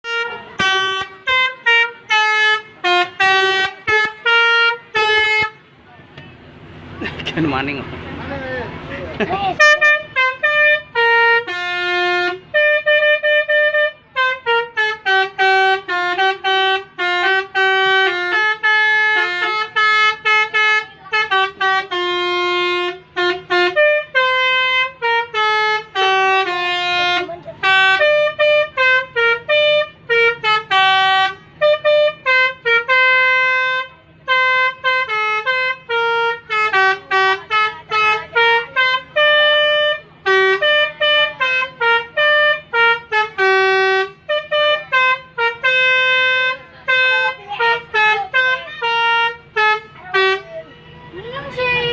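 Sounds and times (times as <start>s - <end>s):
multi-tone bus horn tune: 0.0s - 7.6s, 9.4s - 51.9s.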